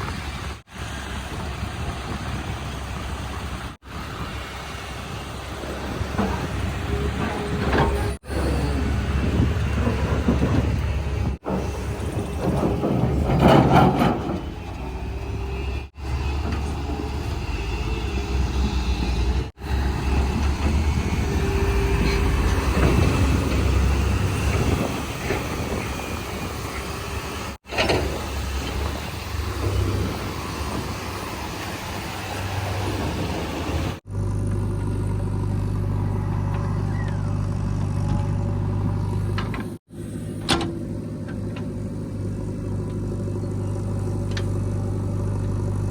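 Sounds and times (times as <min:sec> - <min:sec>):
heavy vehicle engines running: 0:00.0 - 0:45.9.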